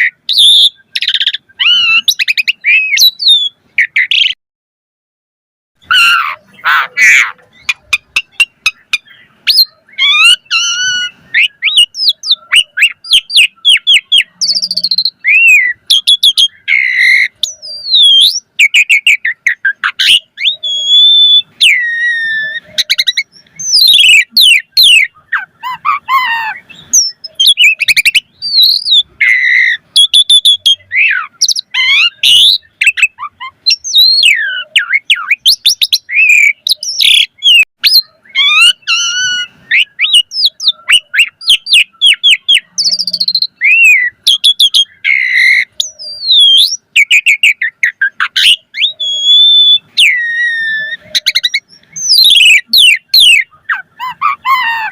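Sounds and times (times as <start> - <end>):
starling singing: 0.0 - 4.4, 5.8 - 54.9.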